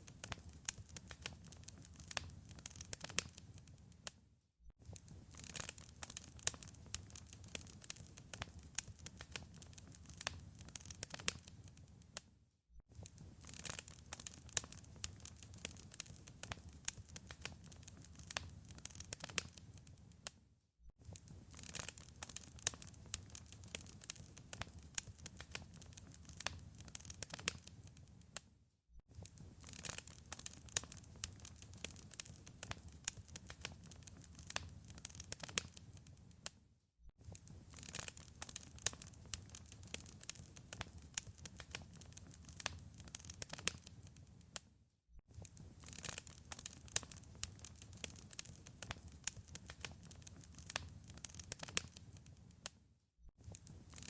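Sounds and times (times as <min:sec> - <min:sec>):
wood fire crackling: 0:00.0 - 0:04.1, 0:04.8 - 0:12.2, 0:12.9 - 0:20.3, 0:21.0 - 0:28.4, 0:29.1 - 0:36.5, 0:37.3 - 0:44.6, 0:45.3 - 0:52.7, 0:53.4 - 0:54.0.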